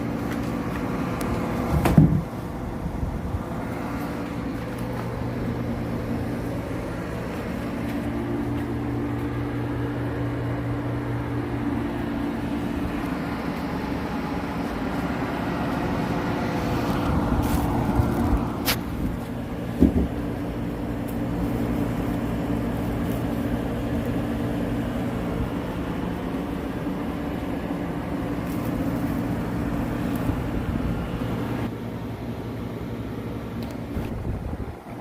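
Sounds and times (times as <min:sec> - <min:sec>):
air conditioner humming: 0:00.0 - 0:35.0.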